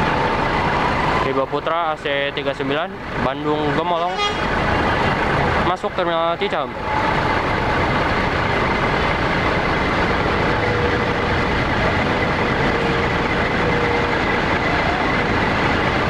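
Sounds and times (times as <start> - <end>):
bus driving past: 0.0 - 16.0
faint steady whines: 0.0 - 16.0.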